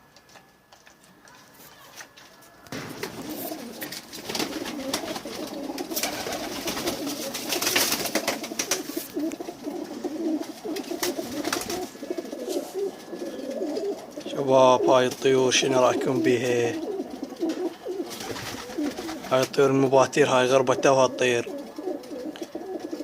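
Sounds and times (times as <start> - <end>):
pigeons cooing: 2.3 - 23.0.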